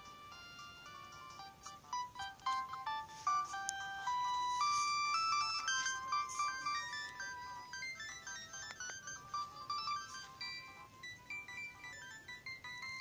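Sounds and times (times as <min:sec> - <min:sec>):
phone ringtone melody: 0:00.0 - 0:13.0.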